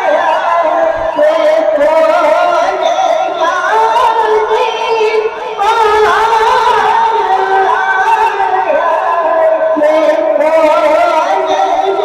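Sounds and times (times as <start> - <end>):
boy singing over loudspeaker: 0.0 - 12.0.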